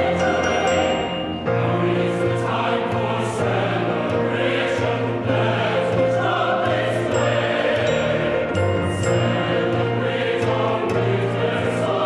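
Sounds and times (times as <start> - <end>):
chamber choir singing: 0.0 - 12.0
string quartet: 0.0 - 12.0.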